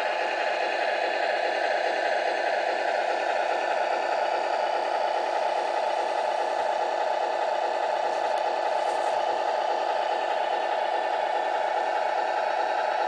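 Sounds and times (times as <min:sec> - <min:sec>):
simulated truck engine idling: 0:00.0 - 0:13.0.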